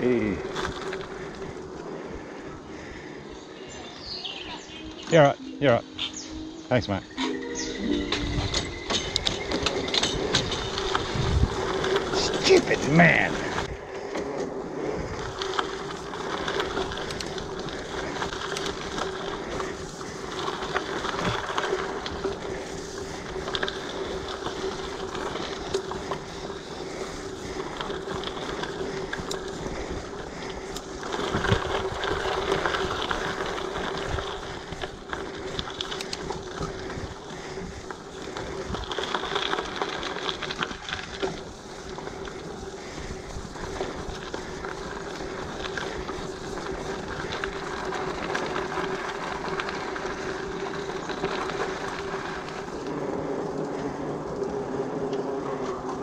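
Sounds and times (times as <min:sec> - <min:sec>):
bike chain rattling and clicking: 0:00.0 - 0:02.9, 0:08.0 - 0:56.0
bike tyres rolling on dirt: 0:00.0 - 0:56.0.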